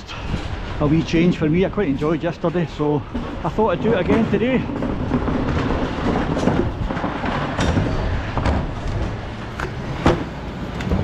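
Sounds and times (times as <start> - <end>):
knocks and clatter: 0.0 - 11.0
refuse truck rumbling: 0.0 - 11.0.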